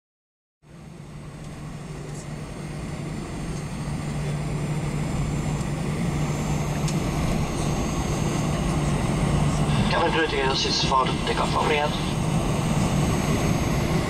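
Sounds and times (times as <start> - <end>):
jet engines humming in cabin: 0.6 - 14.0
low drone: 0.7 - 14.0.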